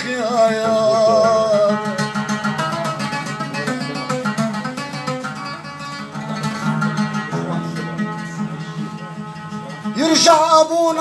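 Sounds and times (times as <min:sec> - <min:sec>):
oud plucked notes: 0:00.0 - 0:11.0.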